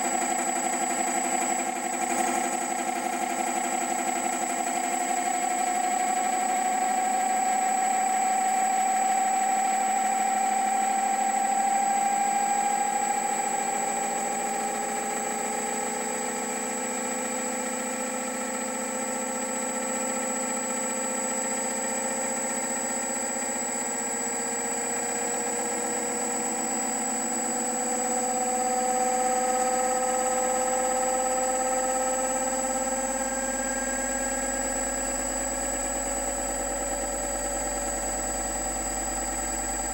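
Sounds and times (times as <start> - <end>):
motor whine: 0.0 - 39.9
constant high whistle: 4.0 - 39.9.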